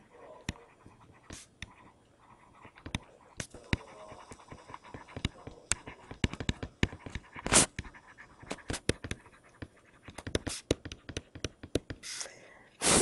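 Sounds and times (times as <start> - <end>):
stylus tapping on tablet: 0.4 - 12.0.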